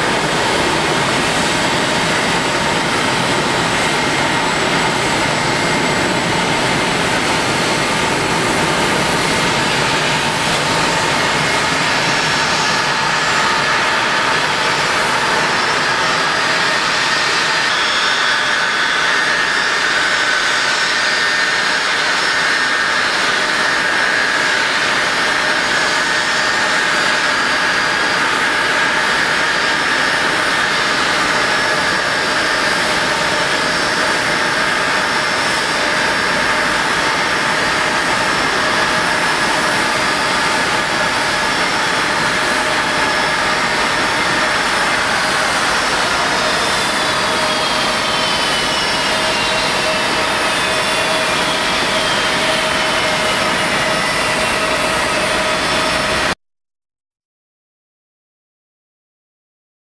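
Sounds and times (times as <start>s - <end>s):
broad rush of noise: 0.0s - 56.4s
jet engines idling whine: 0.0s - 56.4s.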